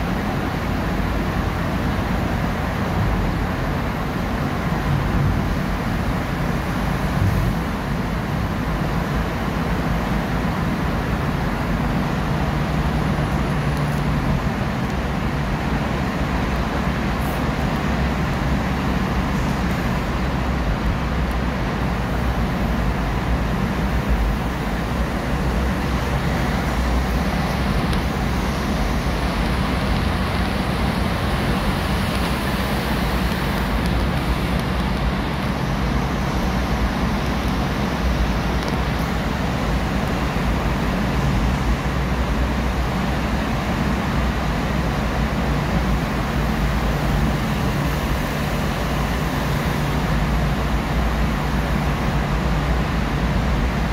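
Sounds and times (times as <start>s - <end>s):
car engine hum: 0.0s - 53.9s.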